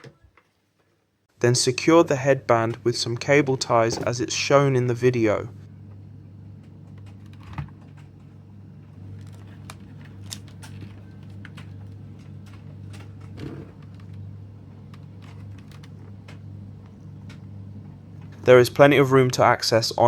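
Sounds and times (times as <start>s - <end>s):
steady low hum: 1.3s - 20.0s.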